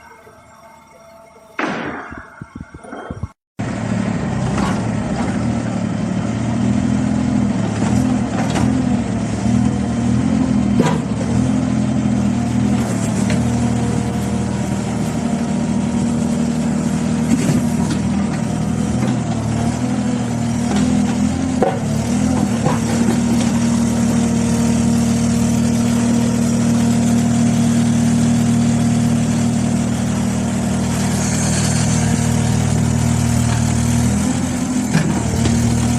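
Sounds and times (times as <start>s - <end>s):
diesel engine running: 2.4s - 35.9s.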